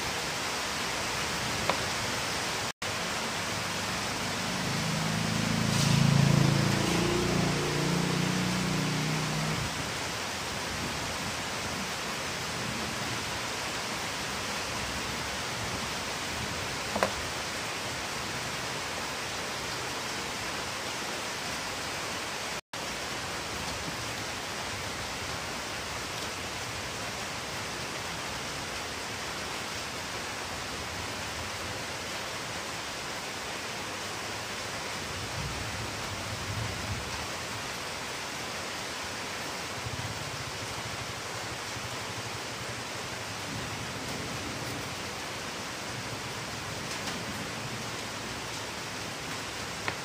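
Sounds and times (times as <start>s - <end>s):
steady hissing noise: 0.0s - 50.0s.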